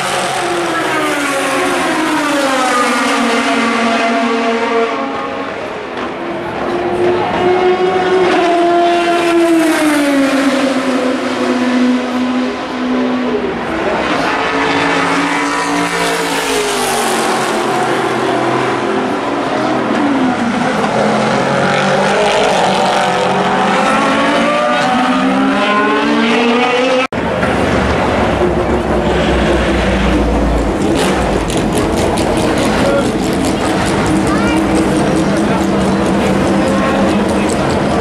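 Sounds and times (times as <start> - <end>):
race cars passing: 0.0 - 38.0.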